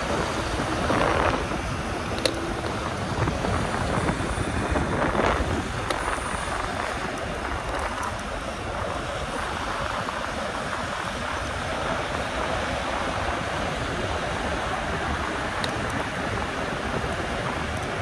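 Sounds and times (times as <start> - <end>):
air buffeting microphone: 0.0 - 18.0
wind and road noise: 0.0 - 18.0.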